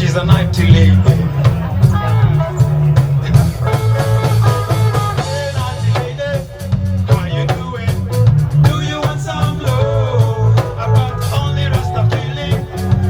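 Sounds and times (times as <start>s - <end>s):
heavy bass line: 0.0s - 13.0s
reggae band playing: 0.0s - 13.0s.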